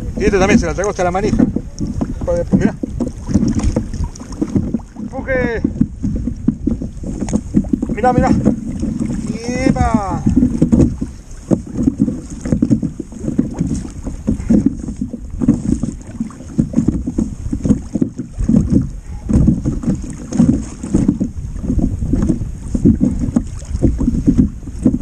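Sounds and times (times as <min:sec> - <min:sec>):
waves slapping kayak hull: 0:00.0 - 0:25.0
wind buffeting microphone: 0:00.0 - 0:25.0.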